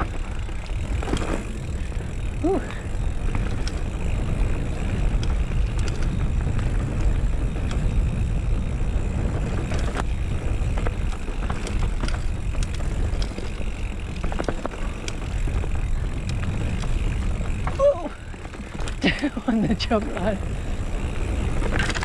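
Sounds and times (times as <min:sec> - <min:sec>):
bike clicks and rattles: 0:00.0 - 0:22.0
bike tyres rumbling on dirt: 0:00.0 - 0:22.0
wind rushing over microphone: 0:00.0 - 0:22.0.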